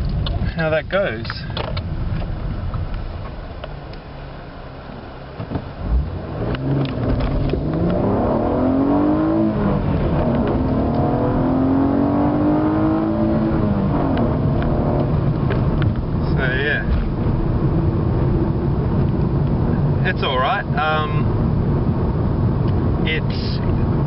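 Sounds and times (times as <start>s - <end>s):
car engine accelerating hard: 4.5s - 24.0s.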